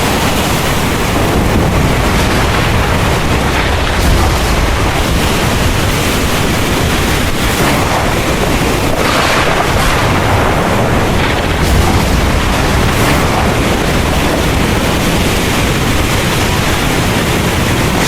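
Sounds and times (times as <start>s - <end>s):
heavy rain pouring: 0.0s - 18.0s
low rumble of thunder: 0.0s - 18.0s.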